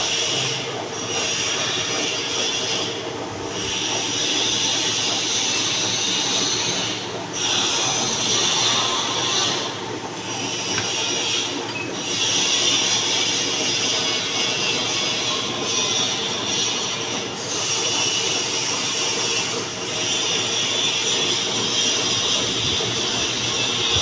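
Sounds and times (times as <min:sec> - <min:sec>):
lathe running: 0:00.0 - 0:24.0
lathe tool screeching: 0:00.0 - 0:24.0.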